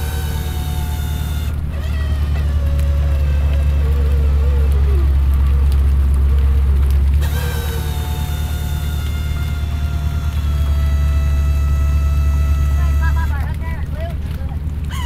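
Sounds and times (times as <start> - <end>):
wavering whine: 0.0 - 13.5
ship engine droning: 0.0 - 15.0.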